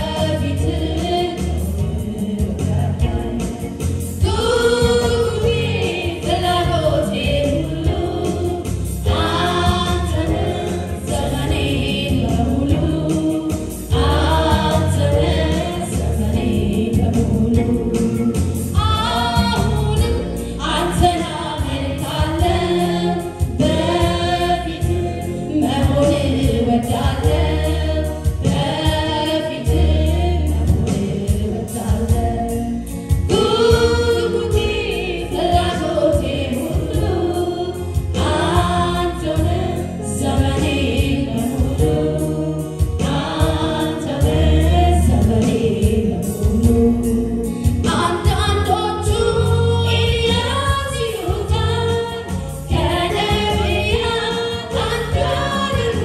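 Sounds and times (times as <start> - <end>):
backing singers: 0.0 - 48.0, 49.0 - 56.0
woman singing lead vocal: 0.0 - 56.0.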